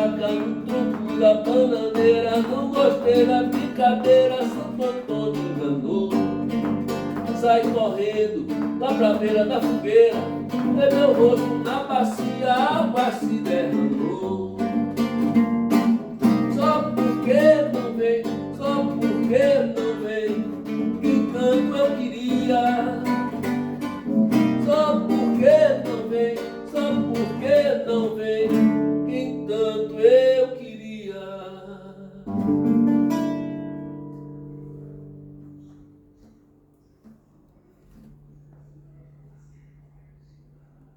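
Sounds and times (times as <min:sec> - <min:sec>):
acoustic guitar strumming: 0:00.0 - 0:37.3.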